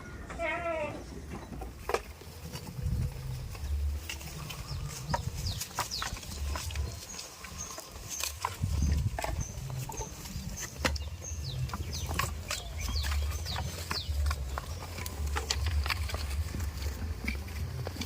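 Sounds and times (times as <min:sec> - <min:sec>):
chicks chirping: 0:01.3 - 0:18.0.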